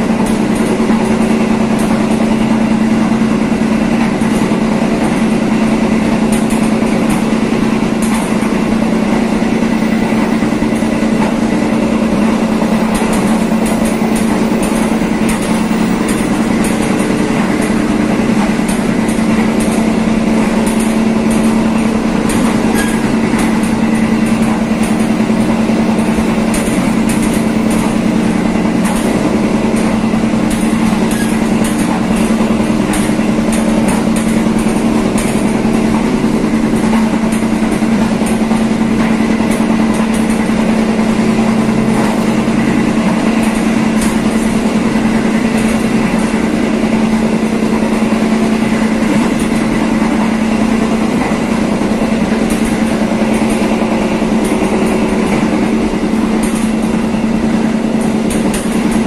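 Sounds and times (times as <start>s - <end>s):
train running along track: 0.0s - 59.0s.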